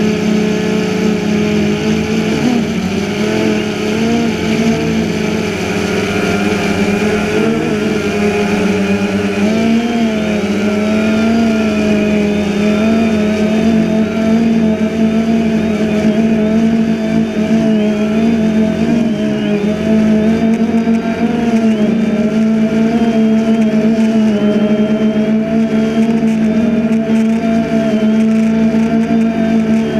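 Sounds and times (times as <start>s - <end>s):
drone propellers humming: 0.0s - 29.9s.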